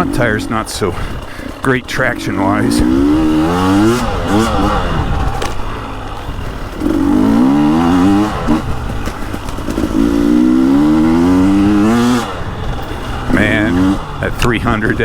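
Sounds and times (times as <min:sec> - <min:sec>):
two-stroke engine pulling under throttle: 0:00.0 - 0:15.0.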